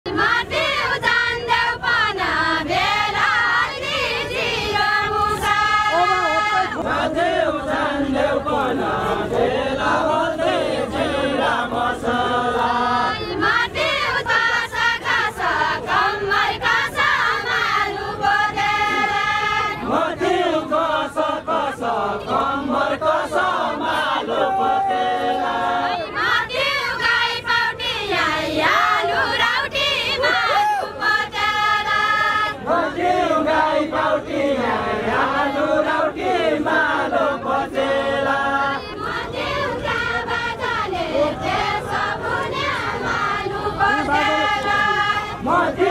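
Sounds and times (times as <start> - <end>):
women singing in chorus: 0.1 - 45.9.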